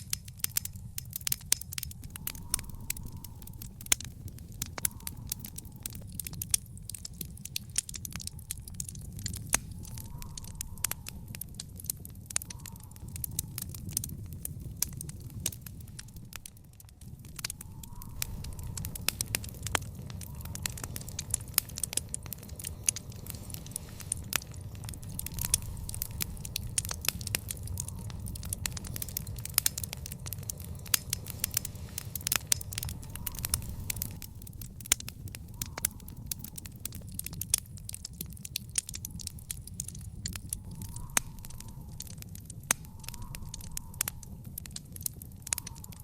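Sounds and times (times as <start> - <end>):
fire crackling: 0.0 - 46.0.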